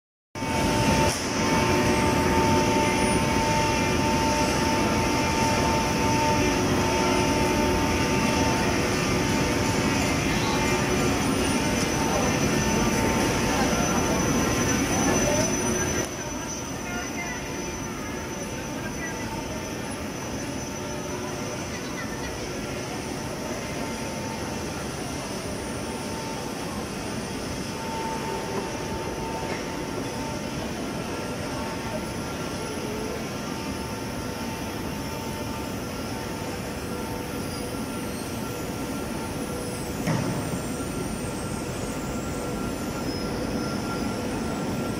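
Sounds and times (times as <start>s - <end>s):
mechanical drone of fans and rollers: 0.4s - 44.9s
thin steady whine: 0.4s - 44.9s.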